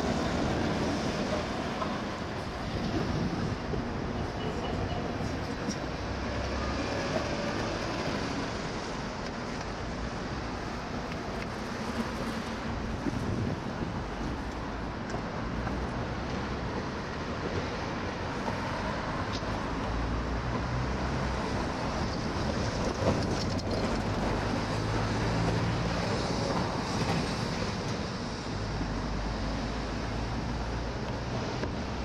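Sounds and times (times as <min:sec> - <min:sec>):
city street traffic rumble: 0:00.0 - 0:32.0.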